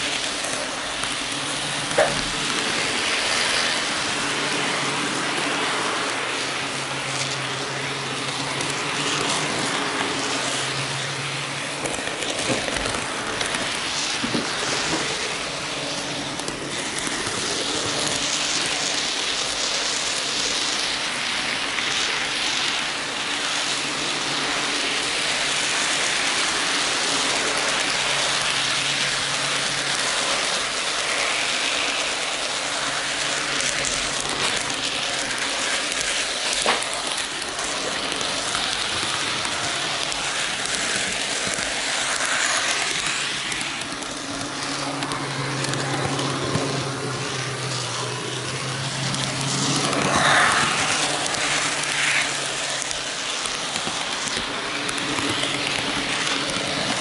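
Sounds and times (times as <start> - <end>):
model train wheels rattling on rails: 0.0 - 57.0.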